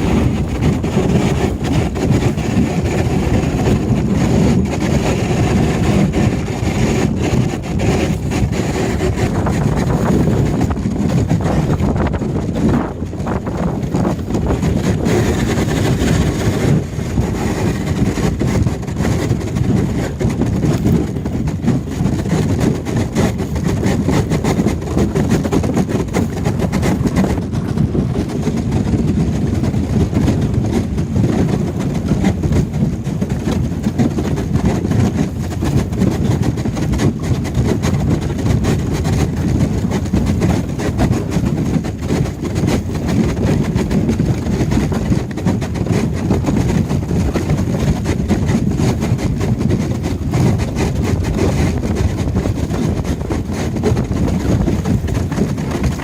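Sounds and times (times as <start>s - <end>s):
boat engine running: 0.0s - 56.0s
ice crackling against hull: 0.0s - 56.0s.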